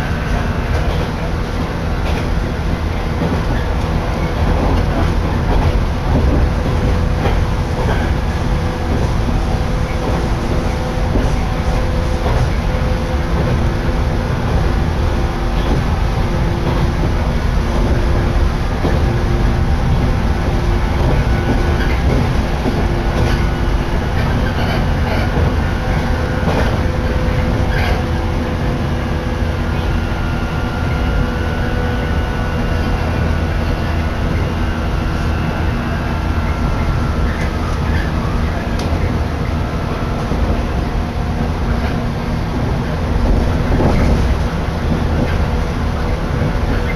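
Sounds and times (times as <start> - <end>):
steady train hum: 0.0 - 46.9
train wheels rumbling on rails: 0.0 - 46.9.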